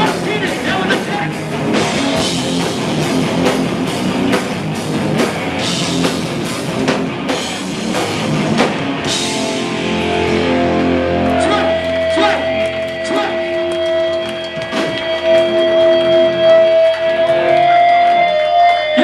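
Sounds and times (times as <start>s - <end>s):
fast hard-hit drums: 0.0s - 16.6s
bass guitar: 0.0s - 19.0s
distorted electric guitars: 0.0s - 19.0s.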